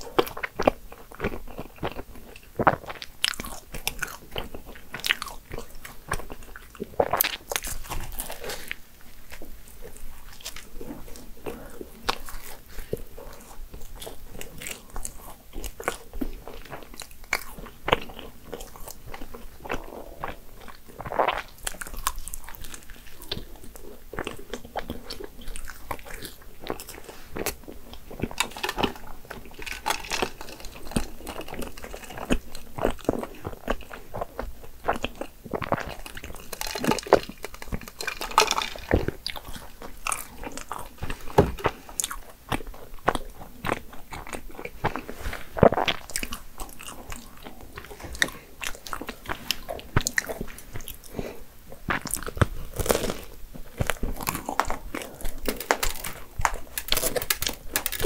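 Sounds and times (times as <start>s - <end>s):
pastry crunching while chewing: 0.0s - 58.0s.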